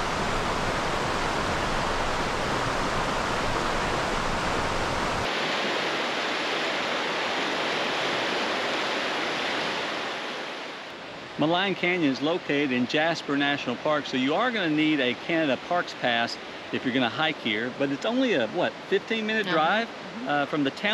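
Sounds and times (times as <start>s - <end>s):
river water rushing: 0.0s - 11.5s, 14.4s - 20.9s.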